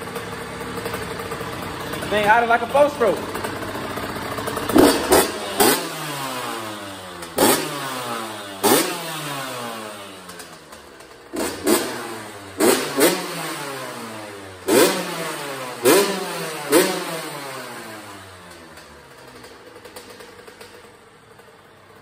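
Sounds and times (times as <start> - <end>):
two-stroke engine revving: 0.0 - 21.4.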